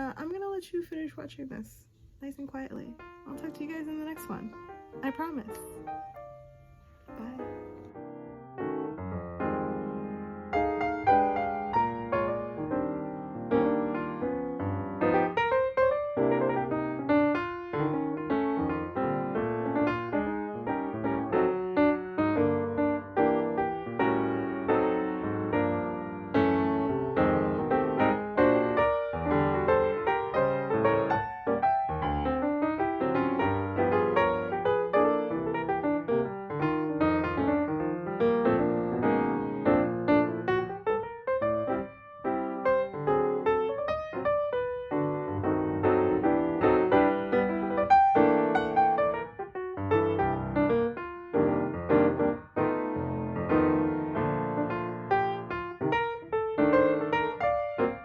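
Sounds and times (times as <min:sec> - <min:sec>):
piano music: 0:02.9 - 0:58.0.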